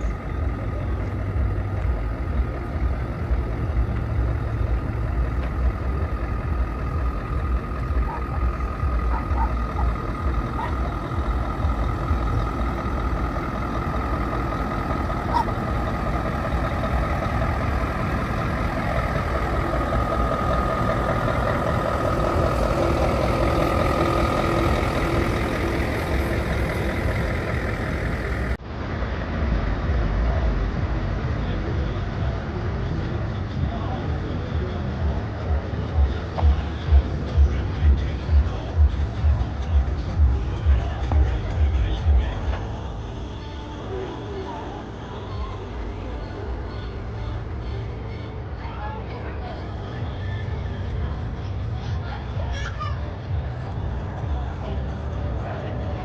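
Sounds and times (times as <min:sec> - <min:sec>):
heavy truck engines rumbling: 0:00.0 - 0:56.0.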